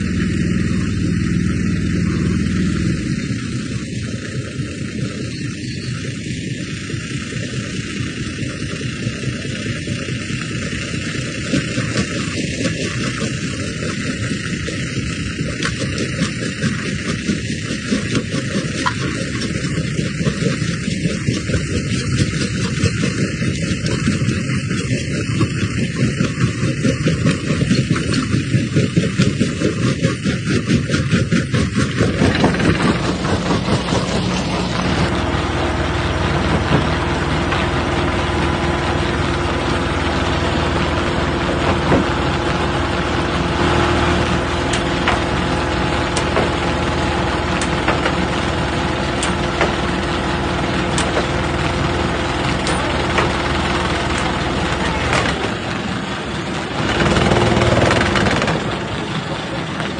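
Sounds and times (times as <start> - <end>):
stone crushing machine droning: 0.0 - 59.9.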